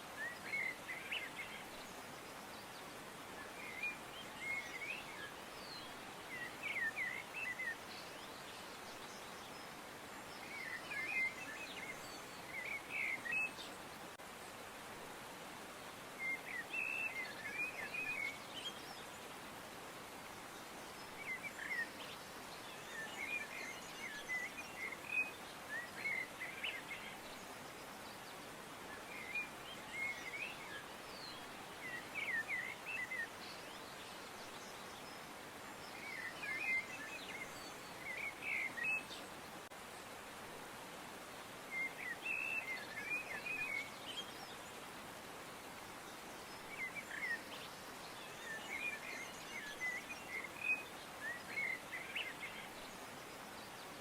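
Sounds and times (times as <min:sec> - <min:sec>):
faint hiss: 0:00.0 - 0:54.0.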